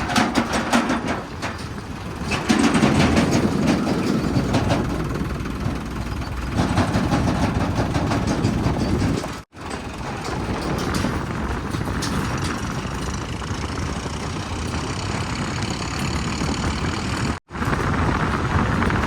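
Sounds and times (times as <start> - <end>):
heavy diesel engine under load: 0.0 - 19.0.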